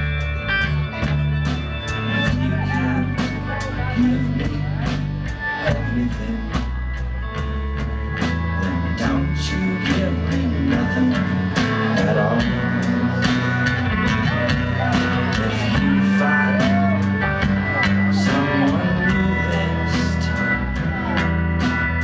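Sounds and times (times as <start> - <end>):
bass guitar: 0.0 - 22.0
distorted electric guitars: 0.0 - 22.0
drum kit beat: 0.0 - 22.0.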